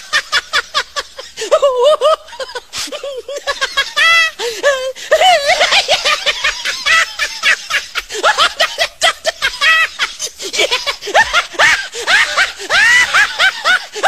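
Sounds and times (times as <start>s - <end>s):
high-pitched cackling laughs: 0.0s - 14.0s.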